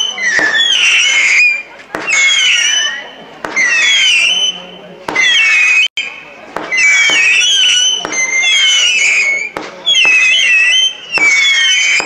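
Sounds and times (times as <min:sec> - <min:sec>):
firework bangs: 0:00.0 - 0:12.0
whistling fireworks screeching: 0:00.0 - 0:12.0.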